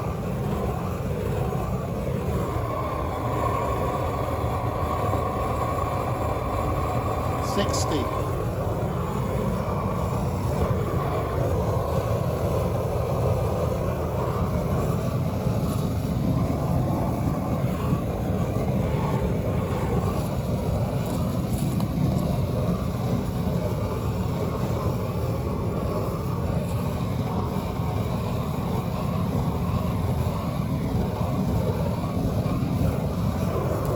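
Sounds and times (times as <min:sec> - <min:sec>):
torch flame rushing: 0:00.0 - 0:33.9.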